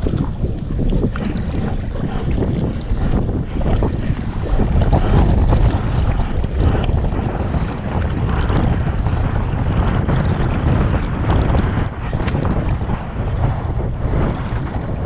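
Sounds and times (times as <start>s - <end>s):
water lapping and splashing: 0.0s - 15.0s
wind buffeting microphone: 0.0s - 15.0s.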